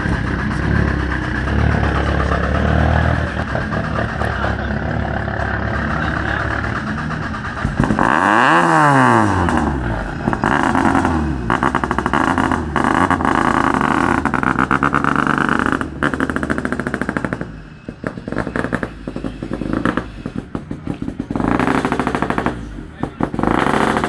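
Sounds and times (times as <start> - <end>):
exhaust crackles: 0.0 - 24.0
rally car engine revving: 0.0 - 24.0.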